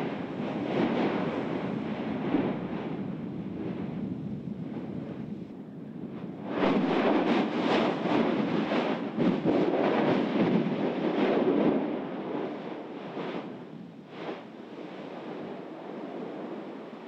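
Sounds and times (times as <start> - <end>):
volcanic blasts: 0.0 - 17.0.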